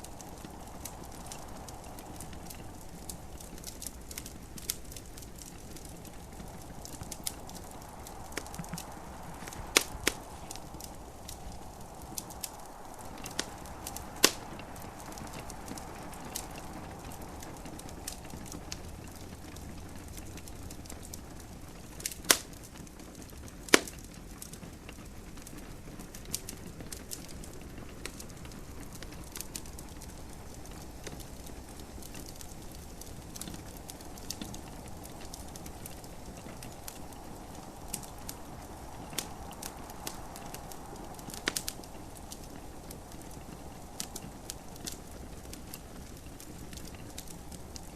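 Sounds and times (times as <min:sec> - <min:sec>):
soft steady hiss: 0:00.0 - 0:47.9
wood fire crackling: 0:00.0 - 0:47.9.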